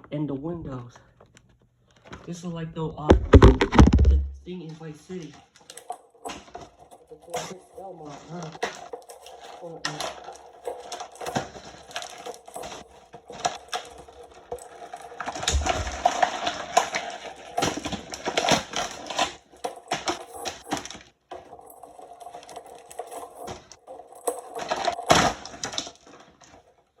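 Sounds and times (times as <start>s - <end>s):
plastic toy clicking and rattling: 4.8s - 27.0s.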